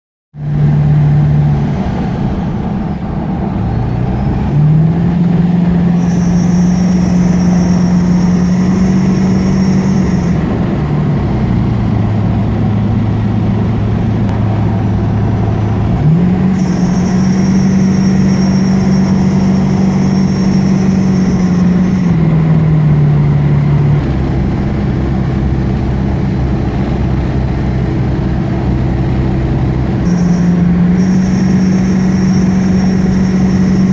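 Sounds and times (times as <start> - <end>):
vehicle engine revving: 0.4 - 33.9
high-pitched whine: 0.5 - 11.4, 14.3 - 33.9.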